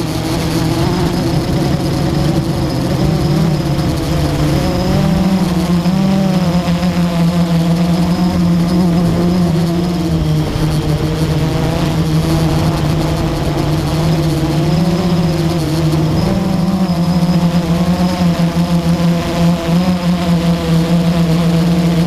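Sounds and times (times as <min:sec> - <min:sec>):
quadcopter propellers humming: 0:00.0 - 0:22.0.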